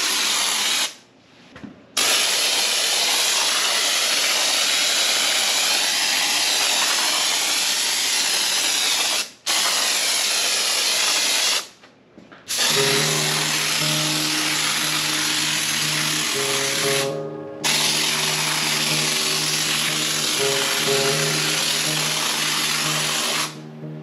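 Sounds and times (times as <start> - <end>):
spray foam hissing from can: 2.0 - 11.7, 12.5 - 17.1, 17.7 - 23.6.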